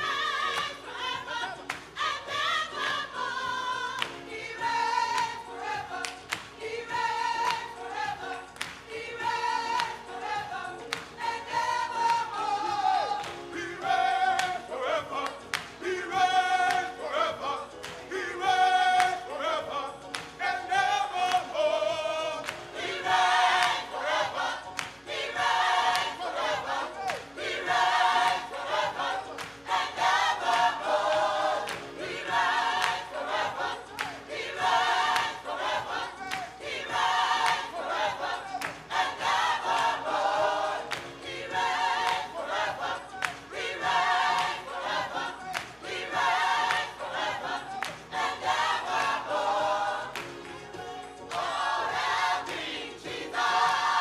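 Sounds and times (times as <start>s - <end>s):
gospel choir singing: 0.0s - 54.0s.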